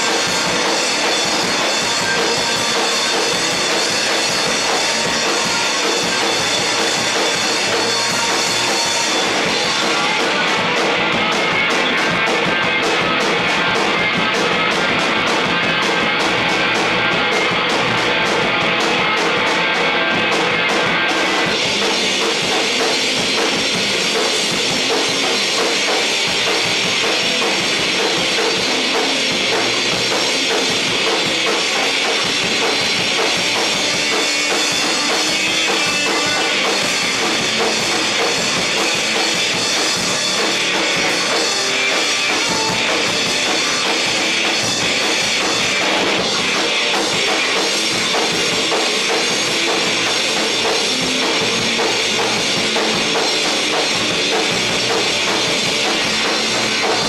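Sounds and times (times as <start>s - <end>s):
loud live rock band: 0.0s - 57.0s.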